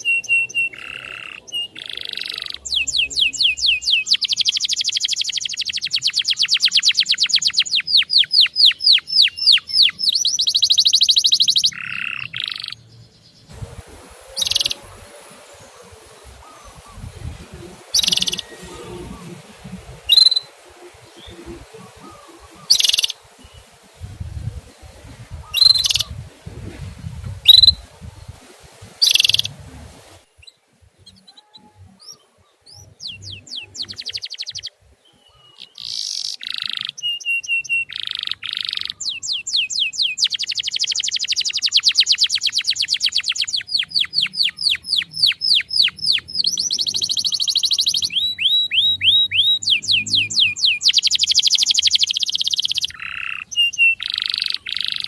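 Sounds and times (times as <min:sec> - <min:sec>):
canary singing and chirping: 0:00.0 - 0:55.0.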